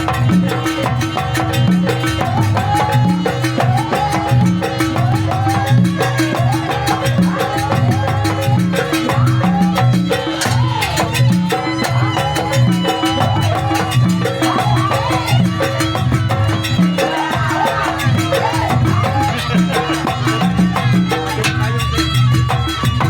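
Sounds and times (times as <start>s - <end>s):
drums and gongs beating: 0.0s - 23.0s
gamelan music: 0.0s - 23.0s
wavering melody line: 1.9s - 23.0s.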